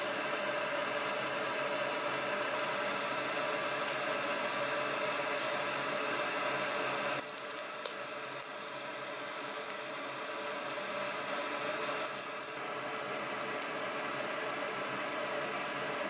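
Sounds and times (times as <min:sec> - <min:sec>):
meat sizzling on grill: 0:00.0 - 0:16.0
crackles and pops: 0:01.5 - 0:05.5, 0:07.1 - 0:16.0.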